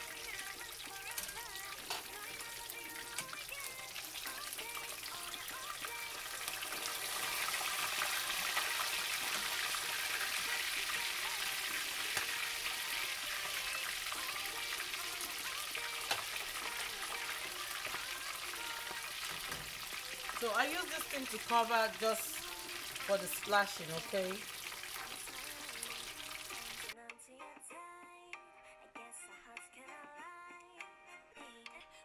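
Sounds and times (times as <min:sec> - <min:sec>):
fish frying in hot oil: 0:00.0 - 0:27.0.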